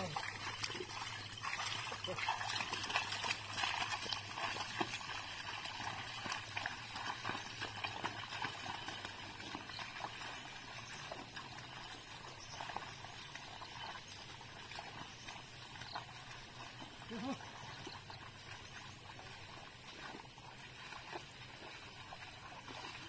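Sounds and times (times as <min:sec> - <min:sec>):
hooves squelching through mud: 0:00.0 - 0:23.0
plough splashing through water: 0:00.0 - 0:23.0.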